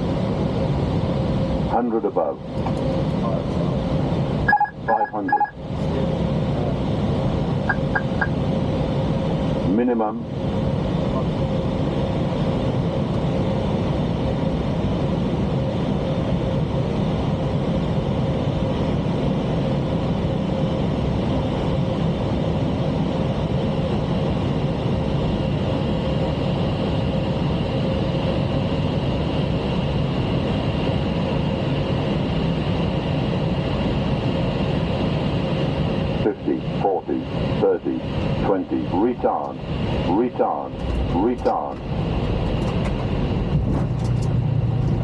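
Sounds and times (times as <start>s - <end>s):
thin steady whine: 0.0s - 14.6s, 21.7s - 45.0s
cockpit airflow and engine noise: 0.0s - 45.0s.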